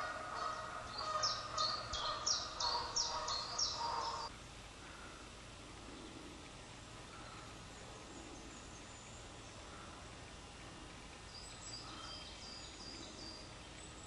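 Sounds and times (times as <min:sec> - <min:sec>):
open air hiss: 0:00.0 - 0:14.0.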